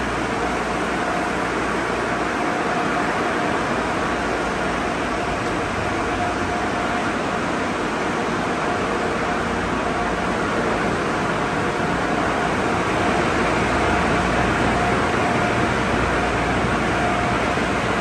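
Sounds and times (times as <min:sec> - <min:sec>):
car wash machinery hum: 0:00.0 - 0:18.0.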